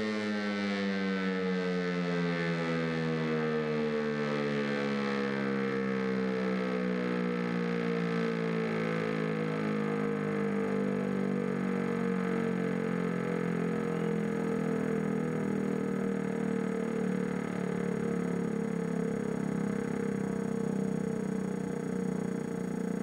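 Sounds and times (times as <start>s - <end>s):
electric motor siren wailing: 0.0s - 23.0s.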